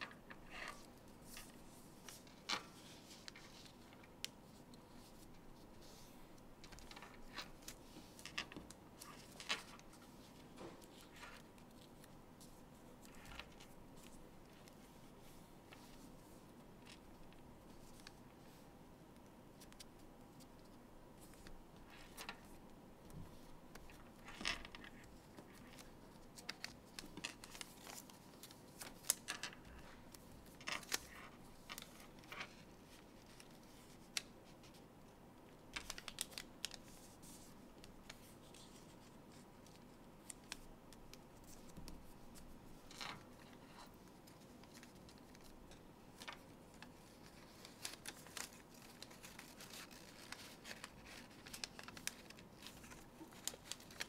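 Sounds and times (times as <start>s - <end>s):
paper rustling and crinkling: 0.0s - 18.6s, 19.6s - 34.8s, 35.7s - 54.0s.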